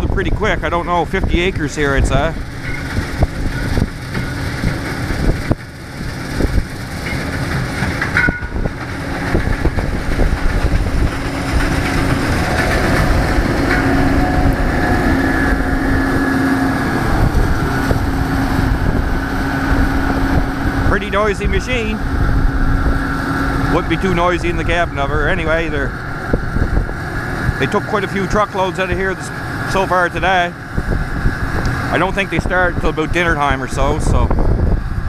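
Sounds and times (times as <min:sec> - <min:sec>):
combine harvester drone: 0:00.0 - 0:35.0.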